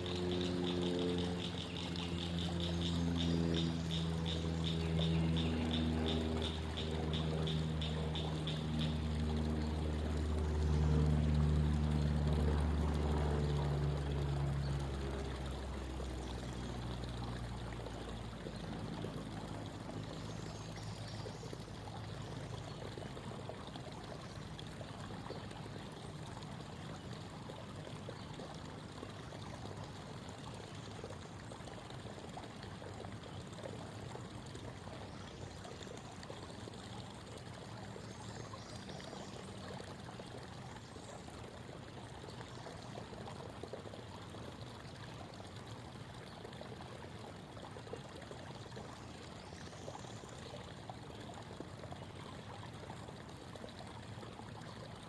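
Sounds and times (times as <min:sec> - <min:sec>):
creek water babbling: 0:00.0 - 0:55.0
distant engine hum: 0:00.0 - 0:55.0.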